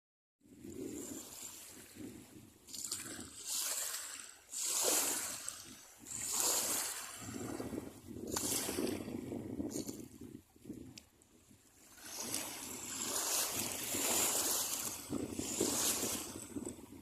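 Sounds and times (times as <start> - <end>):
water splashing and trickling: 1.0 - 17.0.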